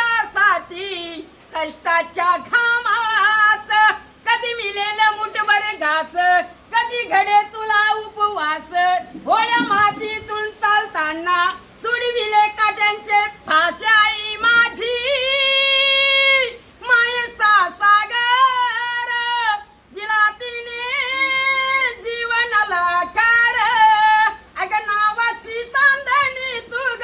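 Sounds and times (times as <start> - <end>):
person singing unaccompanied: 0.0 - 27.0.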